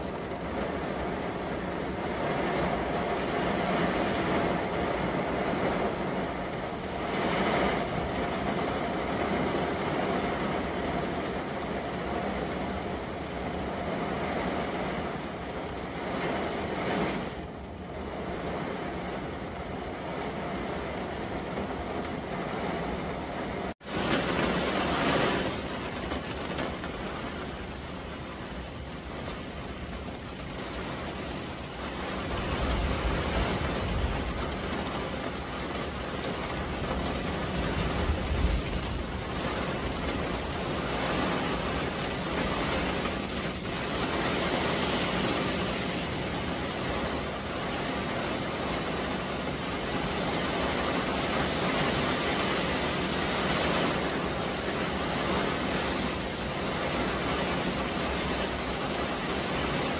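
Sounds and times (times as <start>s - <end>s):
gusting wind: 0.0s - 59.9s
heavy rain on car window: 0.0s - 59.9s.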